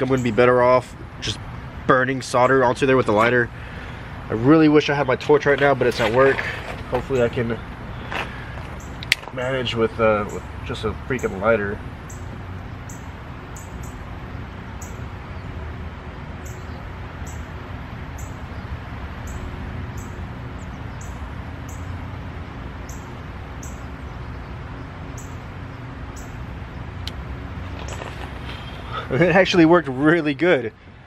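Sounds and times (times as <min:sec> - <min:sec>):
low hum and hiss: 0:00.0 - 0:31.0.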